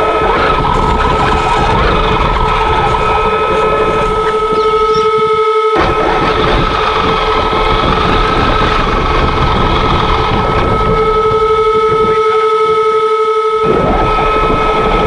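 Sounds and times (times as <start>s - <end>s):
electric motor whine: 0.0s - 15.0s
gears and tyres rumbling on snow: 0.0s - 15.0s.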